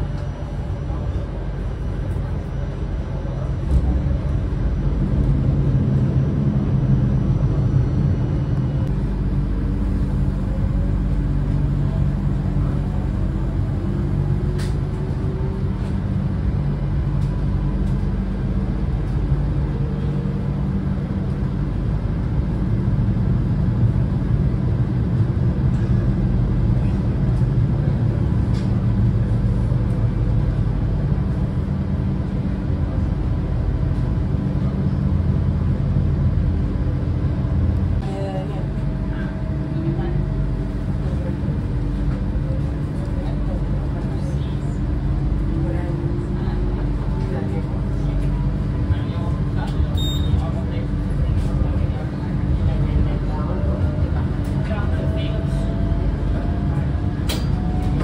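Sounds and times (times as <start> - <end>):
tram rumble and hum: 0.0 - 58.0.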